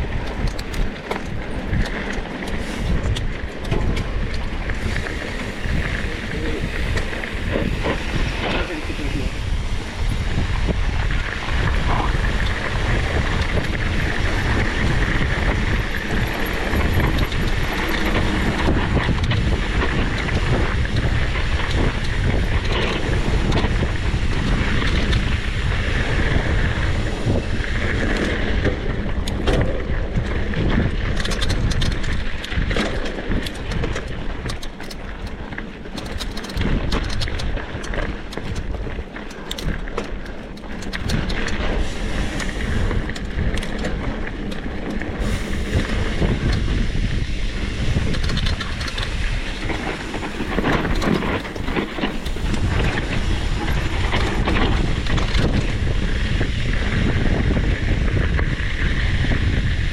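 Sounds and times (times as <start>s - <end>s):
engine crackles: 0.0s - 59.9s
motorcycle engines running: 0.0s - 59.9s.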